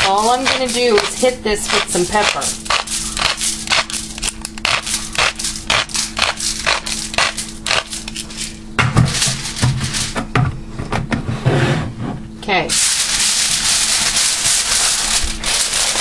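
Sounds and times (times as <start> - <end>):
pepper mill grinding: 0.0 - 10.1, 12.7 - 16.0
rubbing and handling: 0.0 - 10.2, 11.6 - 16.0.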